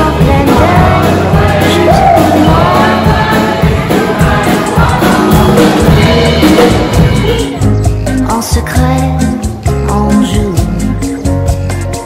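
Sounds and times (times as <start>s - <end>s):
music with singing voices: 0.0s - 12.0s.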